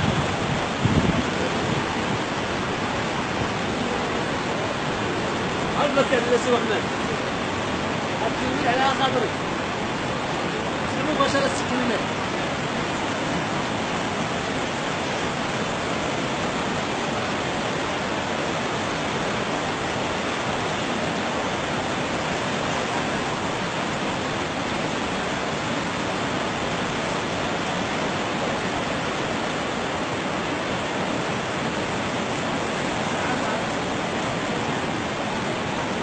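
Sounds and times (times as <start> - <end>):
river rushing: 0.0 - 36.0
waterfalls pouring: 0.0 - 36.0.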